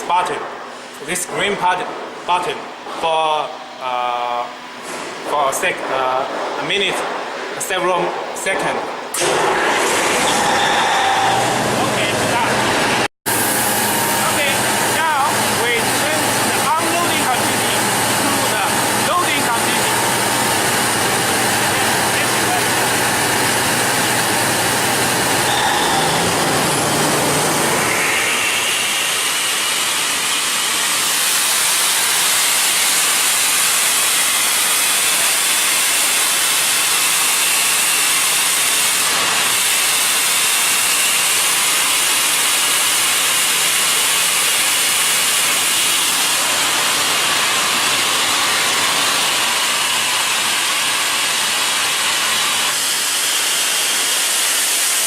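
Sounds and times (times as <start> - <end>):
air compressor hissing: 4.8 - 55.0.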